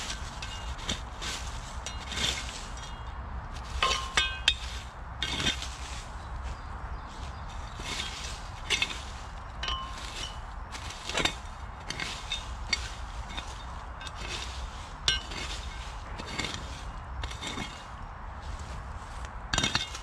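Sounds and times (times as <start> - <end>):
metal shovel digging into ground: 0.0 - 6.1, 7.5 - 18.0, 19.5 - 20.0.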